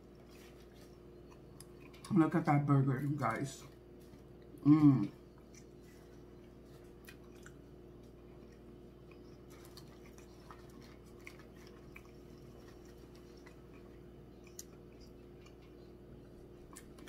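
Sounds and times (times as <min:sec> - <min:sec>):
faint chewing: 0:00.0 - 0:17.0
low steady hum: 0:00.0 - 0:17.0.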